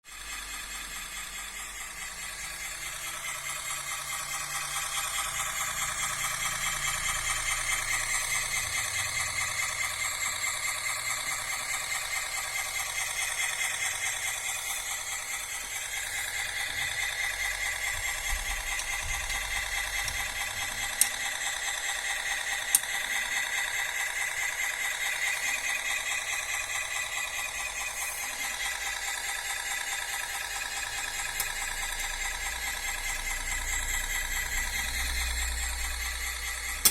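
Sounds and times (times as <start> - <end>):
electric drive whine: 0.1 - 36.9.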